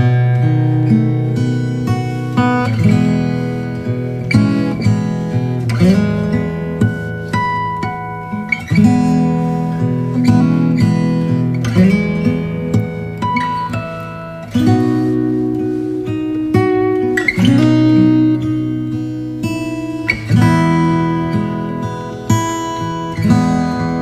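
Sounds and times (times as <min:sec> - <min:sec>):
acoustic guitar plucked and strummed: 0:00.0 - 0:24.0.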